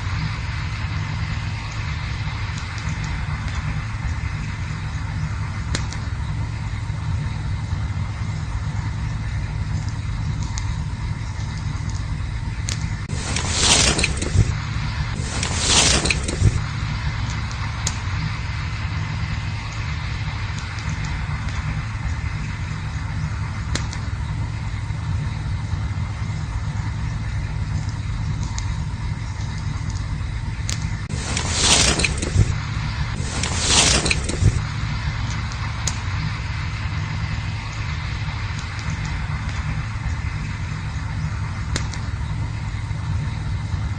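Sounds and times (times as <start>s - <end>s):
campfire rumble: 0.0s - 43.9s
fire crackles: 0.0s - 43.9s.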